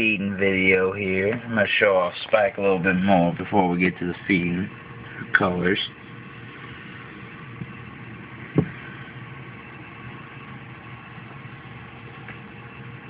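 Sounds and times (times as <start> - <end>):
mechanical hum with tones: 0.0 - 13.0.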